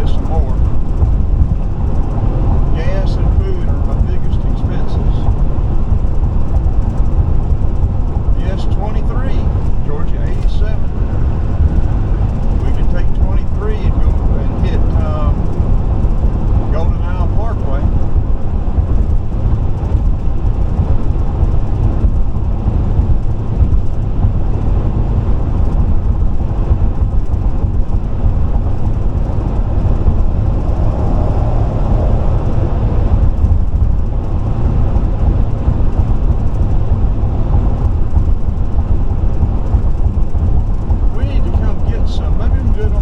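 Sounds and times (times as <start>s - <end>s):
car engine: 0.0s - 43.0s
wind noise: 0.0s - 43.0s.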